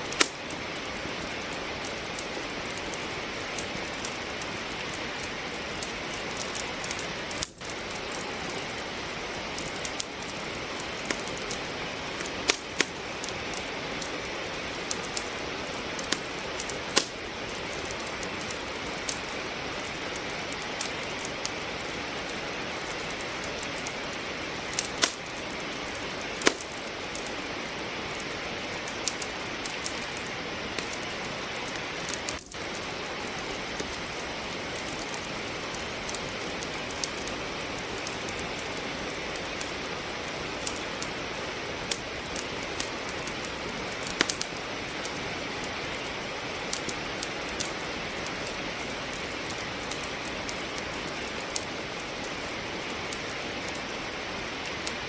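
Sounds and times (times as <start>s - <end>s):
logs crackling in a fireplace: 0.0s - 55.0s
steady rain: 0.0s - 55.0s.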